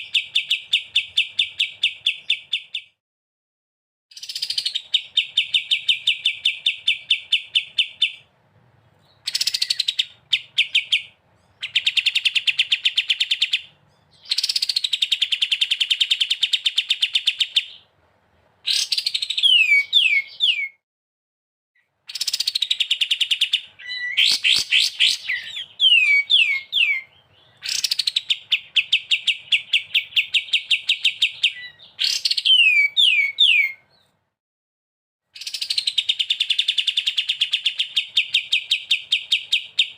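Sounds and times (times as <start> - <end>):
songbird trilling: 0.0 - 3.0, 4.1 - 8.3, 9.1 - 17.9, 18.6 - 20.8, 22.1 - 34.0, 35.4 - 39.9.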